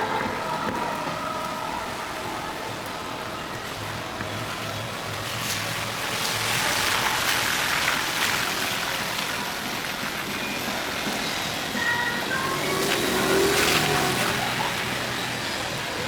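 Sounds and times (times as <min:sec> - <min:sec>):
rain falling on street: 0:00.0 - 0:16.0
tyres hissing on wet road: 0:00.0 - 0:16.0.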